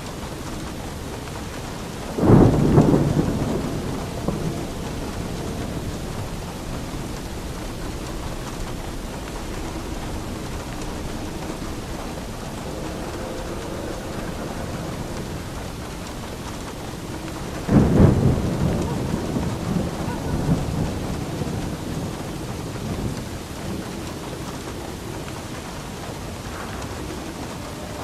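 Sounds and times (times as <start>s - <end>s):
steady rain falling: 0.0s - 28.0s
thunderclap rumbling: 0.0s - 28.0s.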